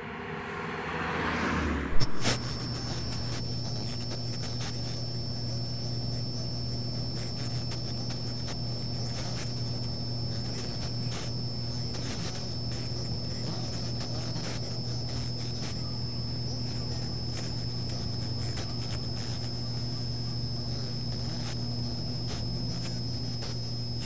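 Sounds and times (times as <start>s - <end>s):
car cabin drone: 0.0s - 24.0s
thin high whine: 0.0s - 24.0s.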